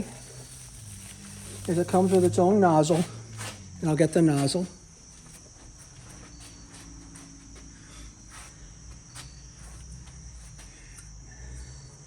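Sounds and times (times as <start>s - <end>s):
footsteps: 0.0s - 10.8s
high-pitched insect trill: 0.0s - 12.0s.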